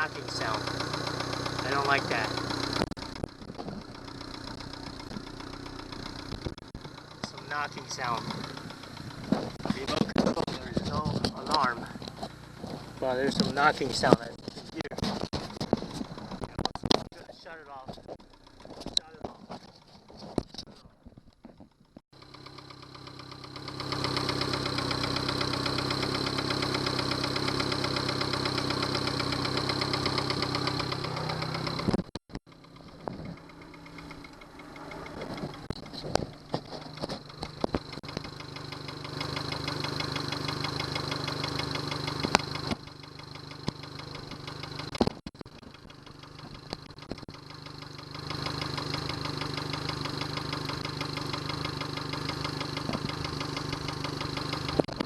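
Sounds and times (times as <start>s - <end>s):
outboard motor running: 0.0s - 55.0s
sharp irregular engine knocks: 0.2s - 20.6s, 21.3s - 55.0s.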